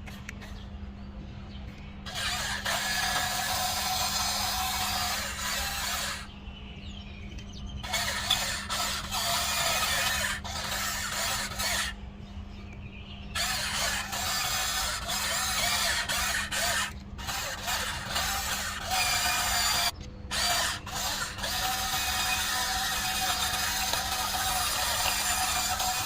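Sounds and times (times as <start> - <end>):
toy excavator motors whirring: 2.0 - 6.4, 7.4 - 26.0.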